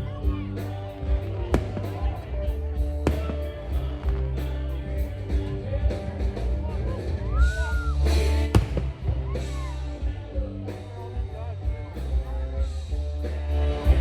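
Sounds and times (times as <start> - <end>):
heavy bass: 0.0 - 14.0
music with singing: 0.0 - 14.0.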